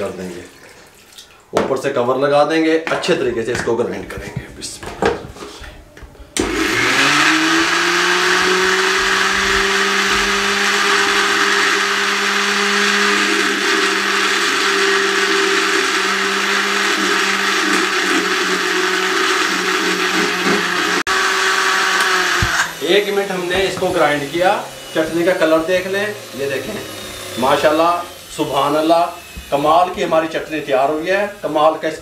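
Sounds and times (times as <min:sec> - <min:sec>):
blender motor whining: 0:06.4 - 0:32.0.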